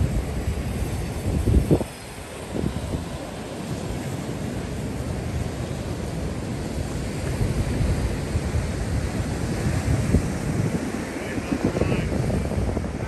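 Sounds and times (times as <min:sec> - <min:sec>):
surf: 0:00.0 - 0:13.0
wind rumbling on microphone: 0:00.0 - 0:13.0.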